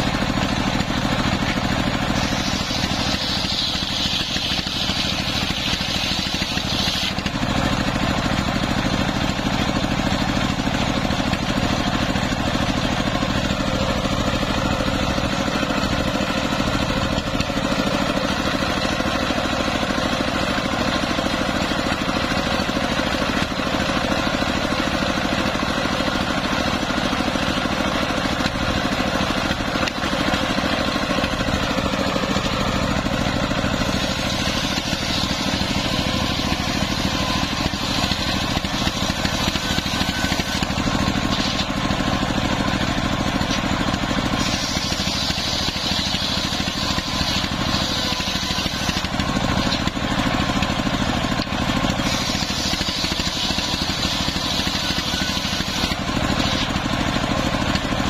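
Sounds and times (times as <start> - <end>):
circular saw cutting wood: 0.0 - 58.0
diesel engine running: 0.0 - 58.0.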